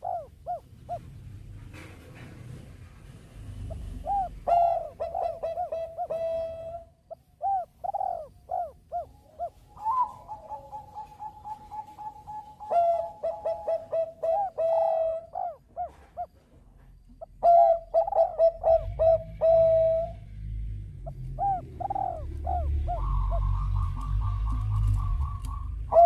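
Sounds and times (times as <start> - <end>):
dove cooing: 0.0 - 1.2, 3.6 - 16.5, 17.1 - 26.0.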